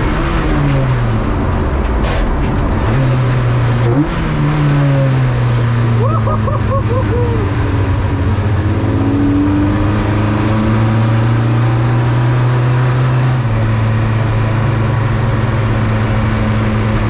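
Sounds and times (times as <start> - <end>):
race car engine running loudly: 0.0 - 17.0.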